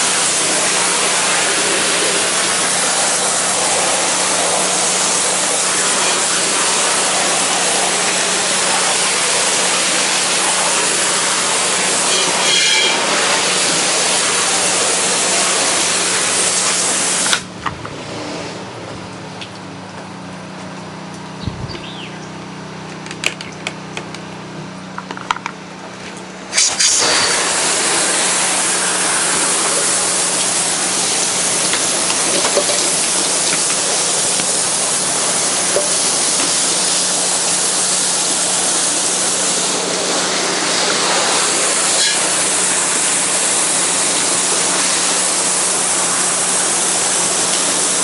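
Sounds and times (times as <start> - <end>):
hiss of spraying water: 0.0 - 17.5, 26.5 - 48.0
pressure washer engine humming: 0.0 - 48.0.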